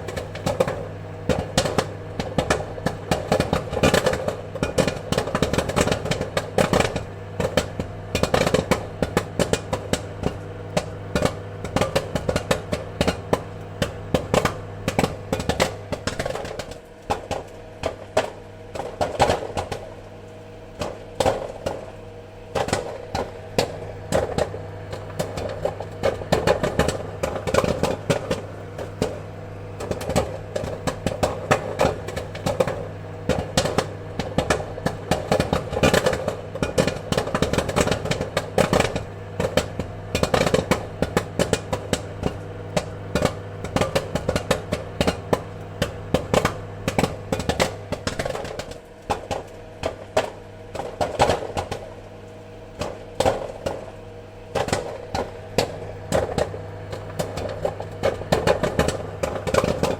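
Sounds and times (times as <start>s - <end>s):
popcorn popping: 0.0s - 59.9s.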